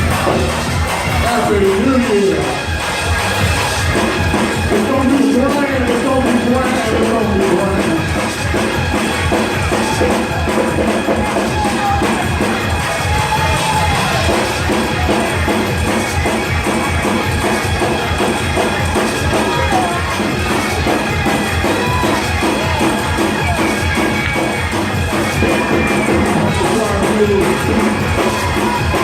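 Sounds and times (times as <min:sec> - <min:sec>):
drum kit fast beat: 0:00.0 - 0:29.0
gospel music: 0:00.0 - 0:29.0.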